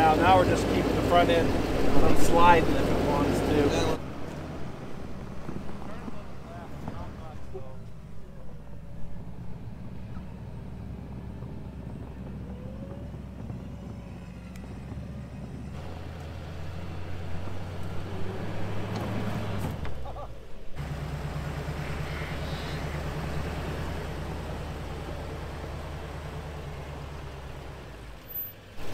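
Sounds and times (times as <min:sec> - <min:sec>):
truck engines running at low revs: 0:00.0 - 0:28.9.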